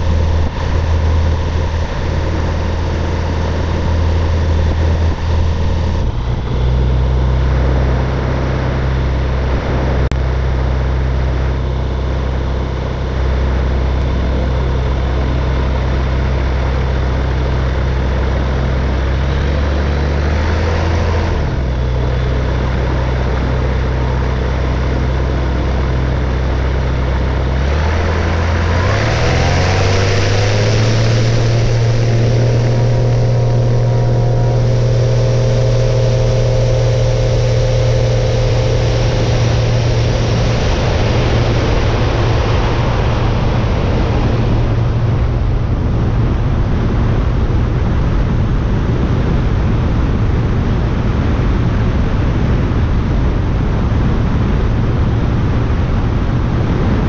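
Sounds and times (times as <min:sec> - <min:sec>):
light aircraft engine and propeller: 0:00.0 - 0:57.0
rush of air: 0:00.0 - 0:57.0.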